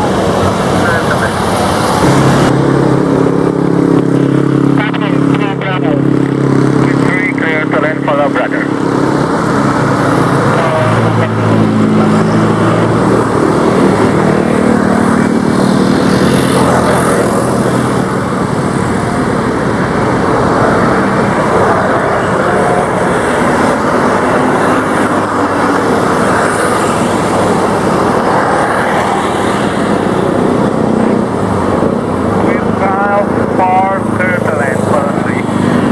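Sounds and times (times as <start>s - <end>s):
dense rush of noise: 0.0s - 35.9s
propeller aircraft engine drone: 0.0s - 35.9s.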